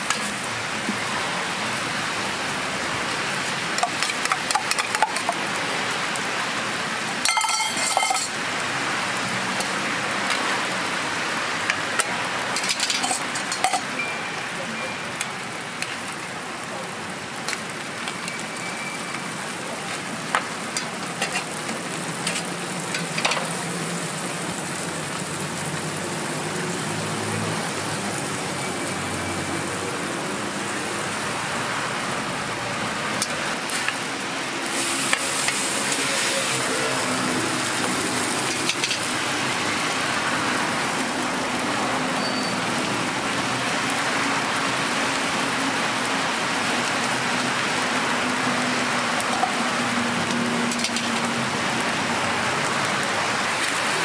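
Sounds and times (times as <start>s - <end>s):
food sizzling on griddle: 0.0s - 54.0s.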